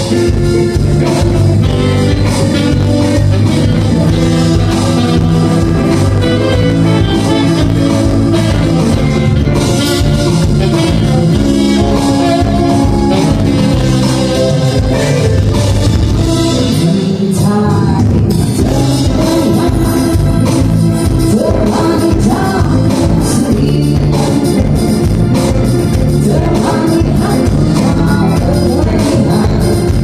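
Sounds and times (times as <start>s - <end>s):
bass: 0.0s - 30.0s
drum kit: 0.0s - 30.0s
guitar: 0.0s - 30.0s
person singing: 0.0s - 30.0s.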